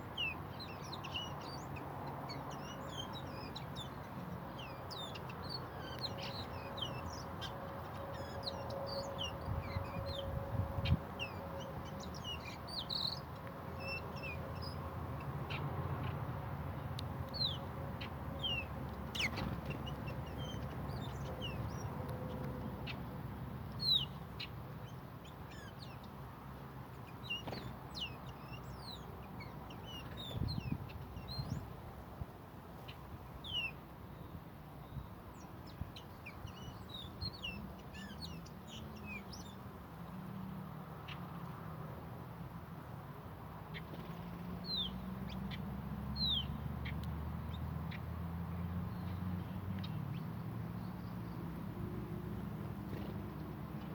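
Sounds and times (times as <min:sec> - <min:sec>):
small birds chirping: 0:00.0 - 0:15.7, 0:17.3 - 0:23.0, 0:23.8 - 0:26.2, 0:26.9 - 0:31.7, 0:32.8 - 0:39.7, 0:43.7 - 0:51.6.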